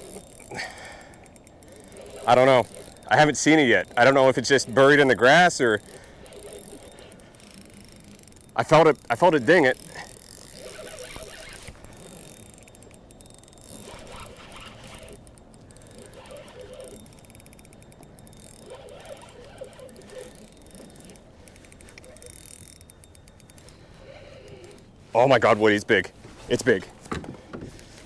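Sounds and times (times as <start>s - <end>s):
fishing reel clicking: 0.0s - 25.8s.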